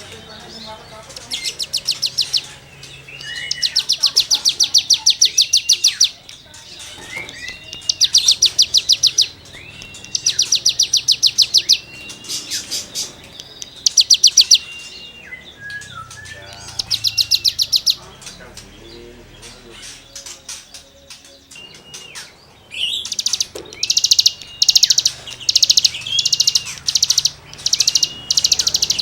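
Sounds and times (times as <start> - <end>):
bird fast scratchy trills: 1.0 - 18.6, 19.4 - 29.0.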